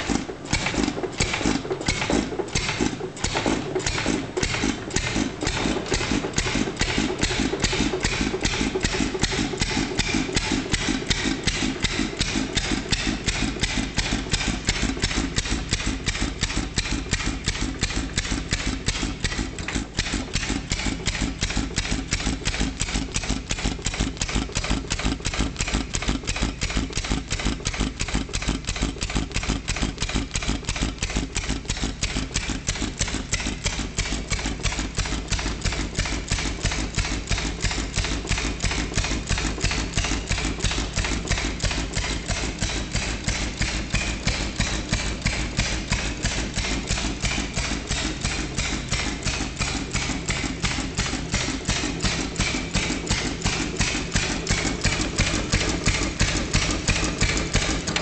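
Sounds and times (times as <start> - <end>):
stationary engine clattering: 0.0 - 58.0.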